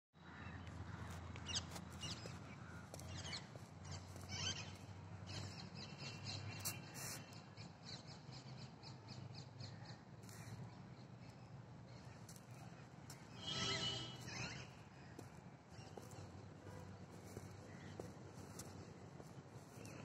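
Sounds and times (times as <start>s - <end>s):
birds chirping: 0.3s - 20.0s.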